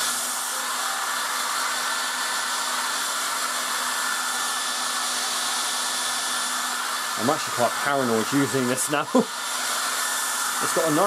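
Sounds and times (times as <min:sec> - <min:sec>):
hairdryer running: 0:00.0 - 0:11.0.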